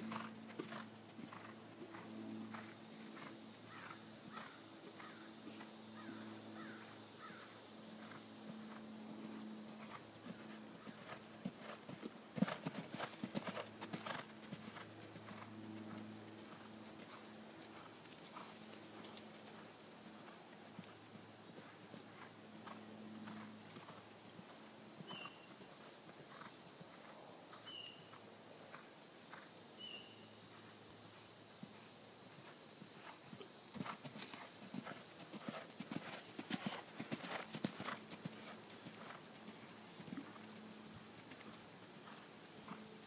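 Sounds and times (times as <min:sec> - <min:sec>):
horse hoofbeats cantering on sand: 0:00.0 - 0:05.8, 0:08.0 - 0:27.8, 0:32.4 - 0:43.0.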